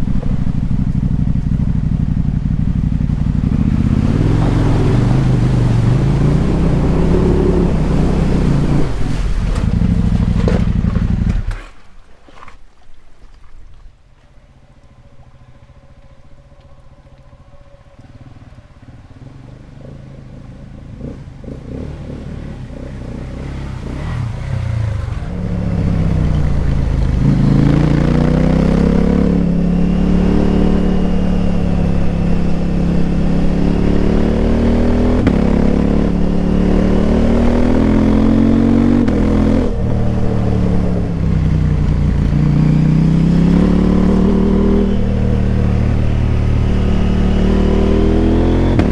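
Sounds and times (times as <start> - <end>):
motorcycle engine revving: 0.0 - 11.7, 14.7 - 48.9.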